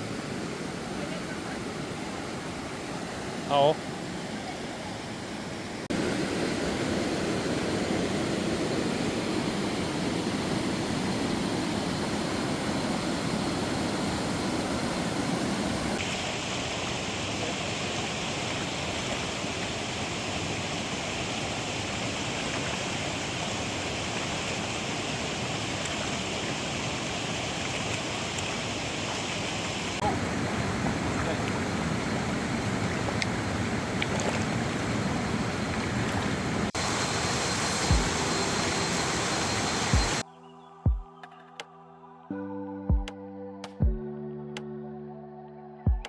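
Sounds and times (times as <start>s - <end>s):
waterfall rushing: 0.0s - 40.2s.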